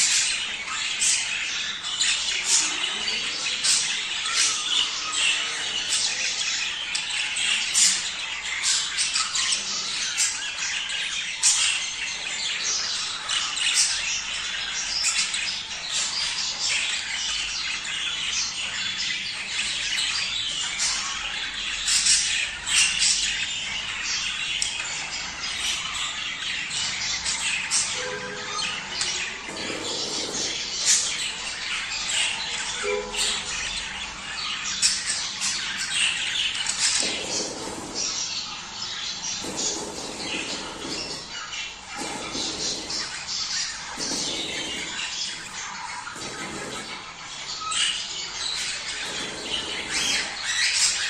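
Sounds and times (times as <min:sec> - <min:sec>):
budgerigars chattering: 0:00.0 - 0:51.0.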